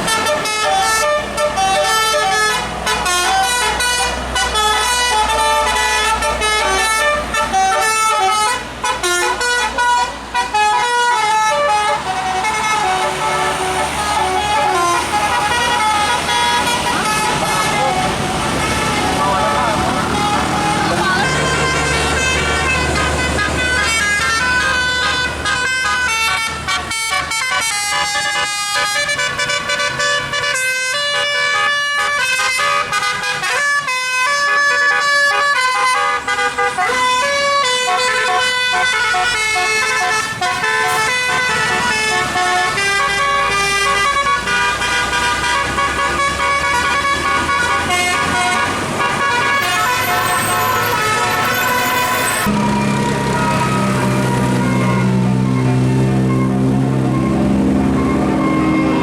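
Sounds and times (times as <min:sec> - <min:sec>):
multi-tone musical air horn: 0:00.1 - 0:59.0.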